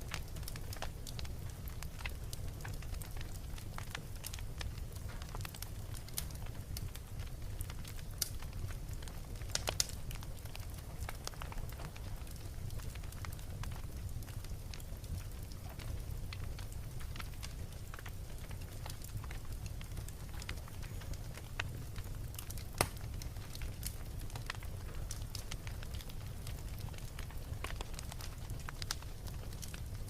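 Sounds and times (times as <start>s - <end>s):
fire rumbling: 0.0s - 30.0s
wood fire pops and snaps: 0.0s - 30.0s.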